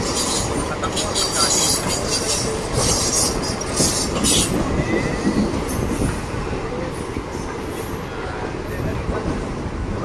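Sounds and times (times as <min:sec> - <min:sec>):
train wheels rumbling over rails: 0:00.0 - 0:10.0.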